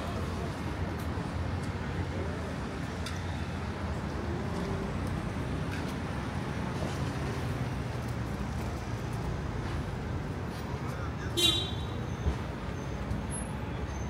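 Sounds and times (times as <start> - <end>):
low rumble of road traffic: 0.0 - 14.0.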